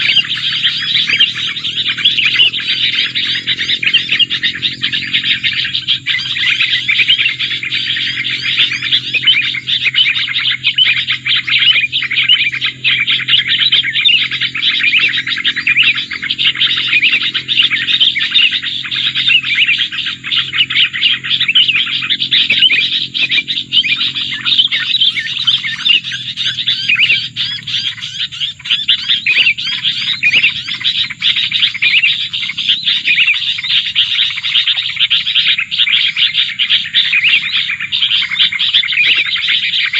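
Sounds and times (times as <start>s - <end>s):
birds chirping and twittering: 0.0s - 39.9s
low steady hum: 0.0s - 39.9s.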